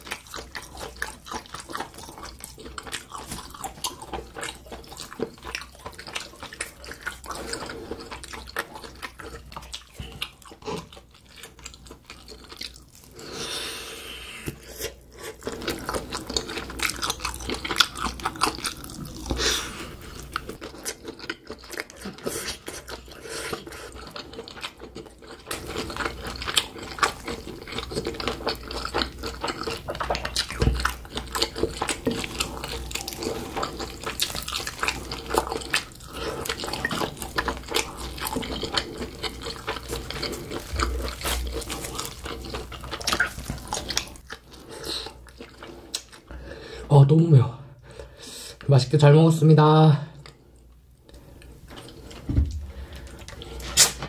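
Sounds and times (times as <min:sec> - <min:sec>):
chewing with wet smacking: 0:00.0 - 0:13.2, 0:14.5 - 0:46.3, 0:50.2 - 0:54.0.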